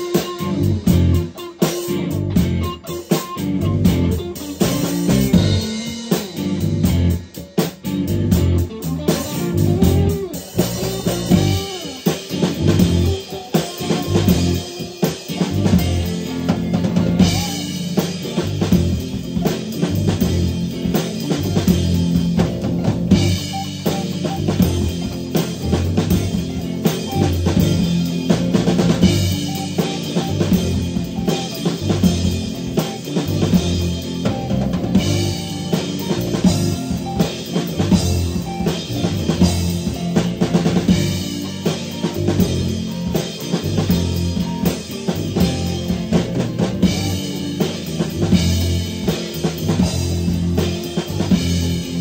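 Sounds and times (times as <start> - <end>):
drum kit hits: 0.0 - 52.0
electric guitars: 0.0 - 52.0
rock band playing live: 0.0 - 52.0.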